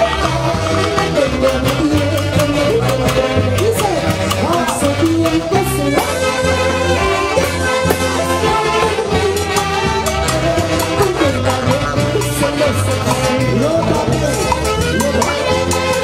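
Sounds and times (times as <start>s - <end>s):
bass and percussion beat: 0.0s - 16.0s
saxophone section melody: 0.0s - 16.0s.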